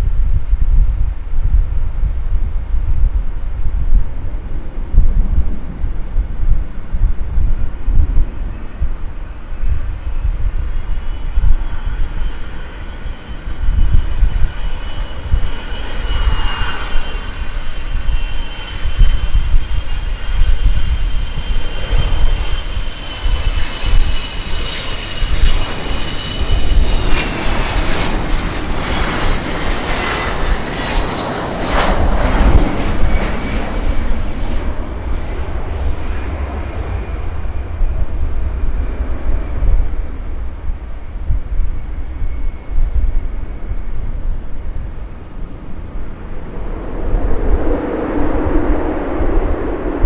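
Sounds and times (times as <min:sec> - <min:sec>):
jet engine whine: 0:00.0 - 0:50.0
wind rumble on microphone: 0:00.0 - 0:50.0.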